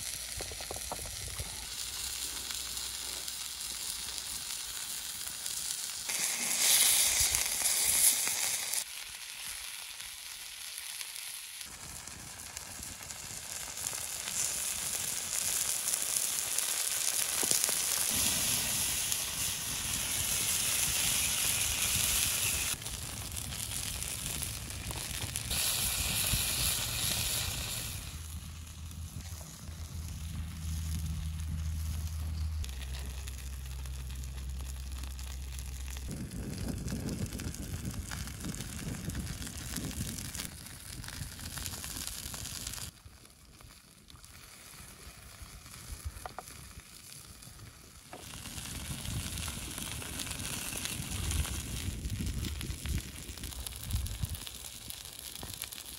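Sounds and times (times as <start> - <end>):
burger patties sizzling: 0.0 - 55.9
wood fire crackling: 0.0 - 55.9.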